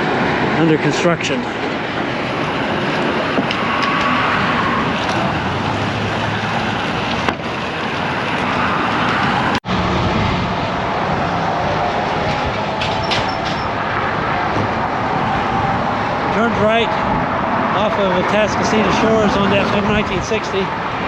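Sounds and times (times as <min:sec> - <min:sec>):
road traffic: 0:00.0 - 0:21.0
wind on microphone: 0:01.5 - 0:21.0.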